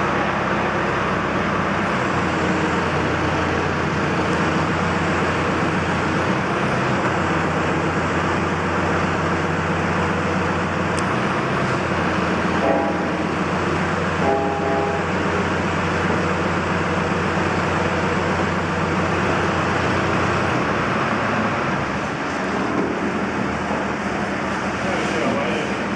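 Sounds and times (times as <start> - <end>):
machine running with low hum: 0.0 - 25.9.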